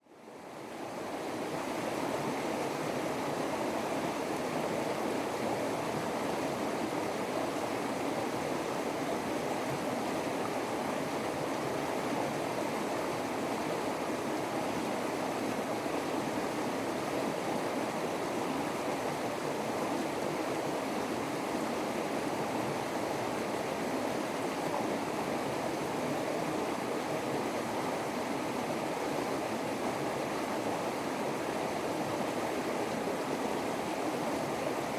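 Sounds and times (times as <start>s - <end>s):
rush of running water: 0.1s - 34.9s.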